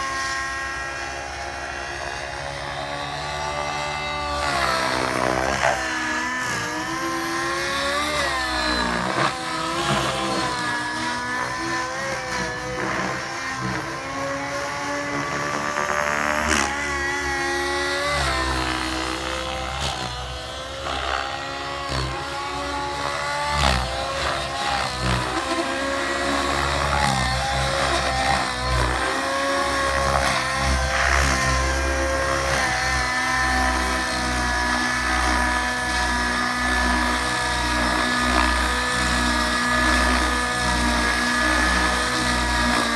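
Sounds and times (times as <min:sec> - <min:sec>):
model helicopter engine at high revs: 0:00.0 - 0:42.9.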